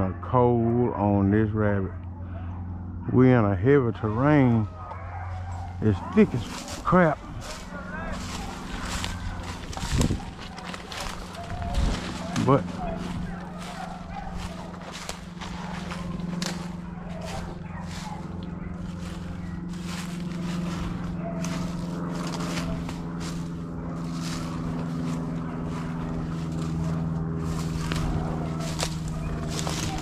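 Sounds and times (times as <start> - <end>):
steady low hum: 0.0 - 30.0
leaves crackling underfoot: 4.0 - 30.0.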